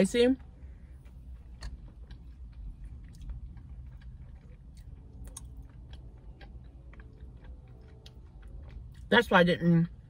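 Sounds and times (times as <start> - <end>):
low background rumble: 0.0 - 10.0
person chewing food: 0.4 - 9.1.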